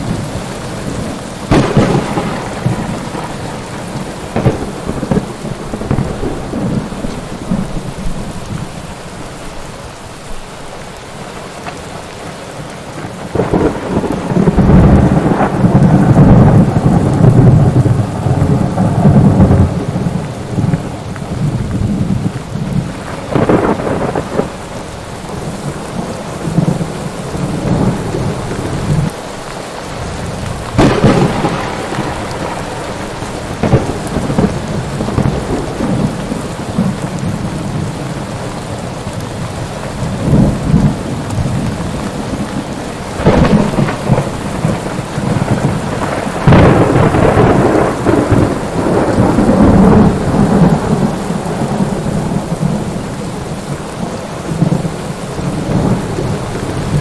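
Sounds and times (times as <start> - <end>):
thunder cracking and rumbling: 0.0 - 9.6, 12.9 - 57.0
heavy rain: 0.0 - 57.0.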